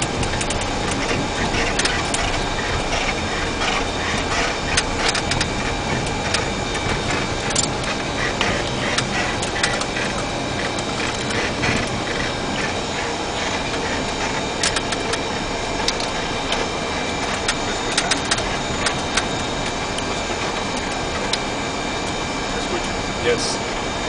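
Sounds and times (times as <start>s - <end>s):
sharp clicks and rattles: 0.0s - 23.4s
engine and airflow rush: 0.0s - 24.0s
faint high whine: 0.0s - 24.0s.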